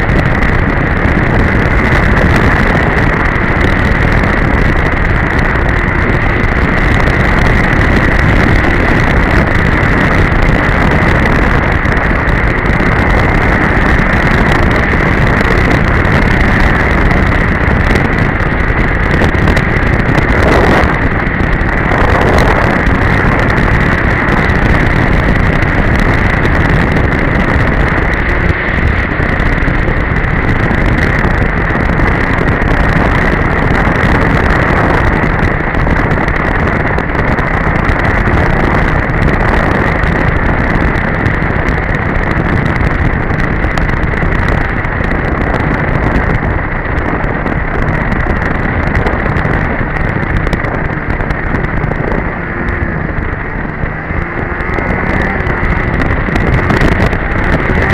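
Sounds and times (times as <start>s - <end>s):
high whine: 0.0s - 57.9s
snowmobile engine running: 0.0s - 57.9s
track noise: 0.0s - 57.9s
wind buffeting microphone: 0.0s - 57.9s.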